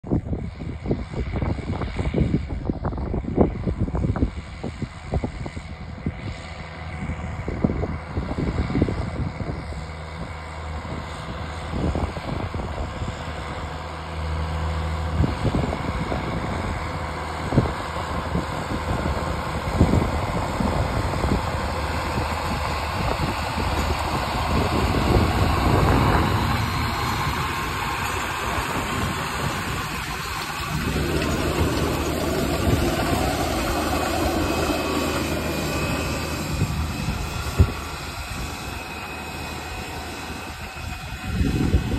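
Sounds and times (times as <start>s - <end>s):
tractor diesel engine running: 3.0s - 41.9s.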